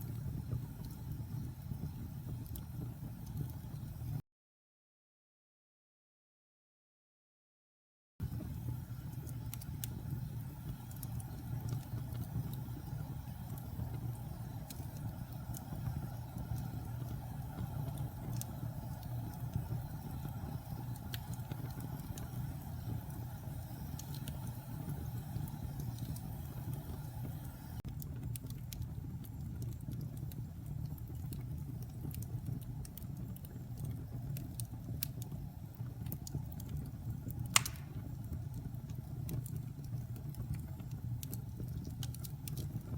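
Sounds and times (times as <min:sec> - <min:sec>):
wood fire crackling: 0:00.0 - 0:04.2, 0:08.2 - 0:42.9.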